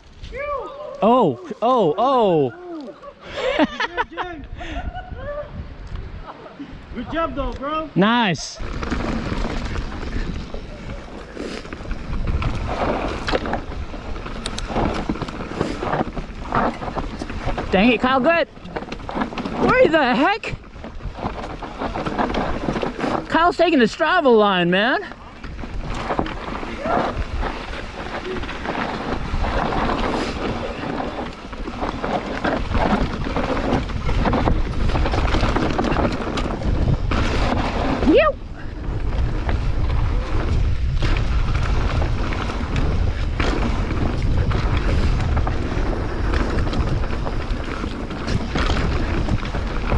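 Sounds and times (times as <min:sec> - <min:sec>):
wind buffeting microphone: 0:03.6 - 0:07.9, 0:08.6 - 0:24.4, 0:25.1 - 0:49.9
tyres rolling over dirt: 0:08.2 - 0:49.9
bike knocks and rattles: 0:08.6 - 0:24.0, 0:25.1 - 0:49.9.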